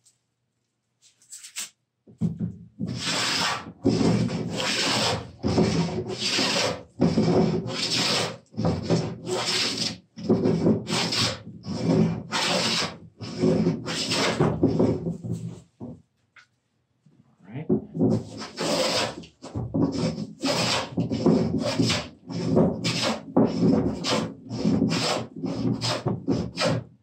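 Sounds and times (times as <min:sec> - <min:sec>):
hand plane shaving wood: 0:02.8 - 0:15.6, 0:18.0 - 0:26.9.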